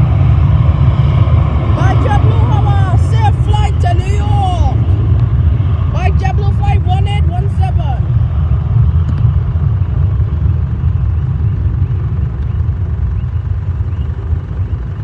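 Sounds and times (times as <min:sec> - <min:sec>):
jet engines rumbling on takeoff: 0:00.0 - 0:15.0.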